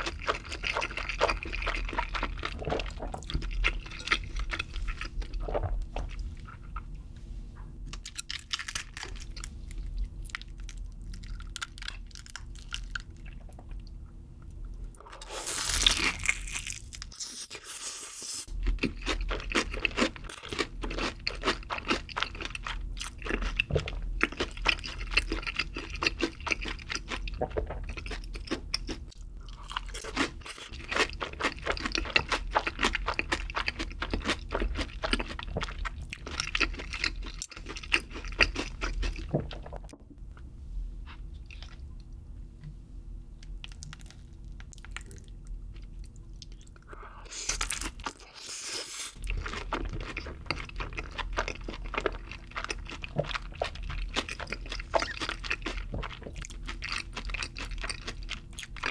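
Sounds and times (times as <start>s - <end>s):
chewing crunchy fried chicken: 0.0s - 6.9s, 7.9s - 14.0s, 14.6s - 40.0s, 41.1s - 42.2s, 43.4s - 58.9s.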